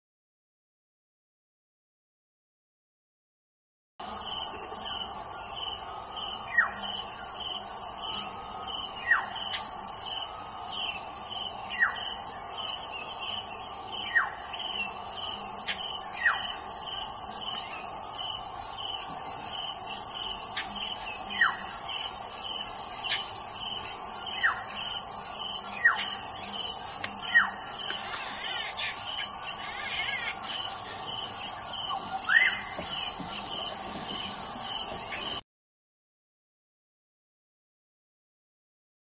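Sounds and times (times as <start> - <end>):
pulsing insect chorus: 4.0 - 35.4.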